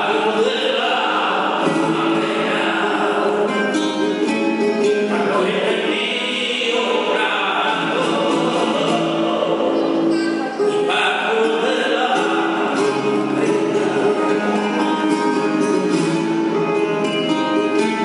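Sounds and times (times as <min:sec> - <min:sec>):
nylon-string guitar: 0:00.0 - 0:18.0.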